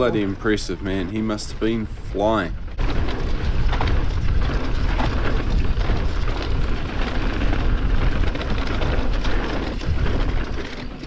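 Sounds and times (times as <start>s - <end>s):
bike tyres on dirt trail: 0.0s - 11.0s
wind rumble on microphone: 0.0s - 11.0s.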